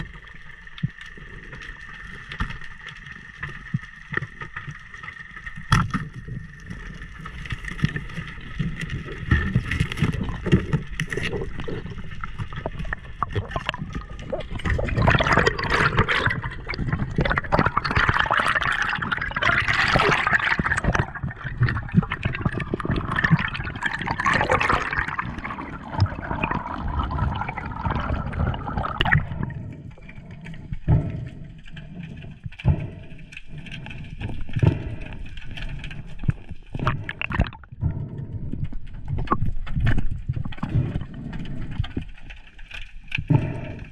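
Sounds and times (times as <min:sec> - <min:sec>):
water swishing and gurgling underwater: 0:00.0 - 0:43.9.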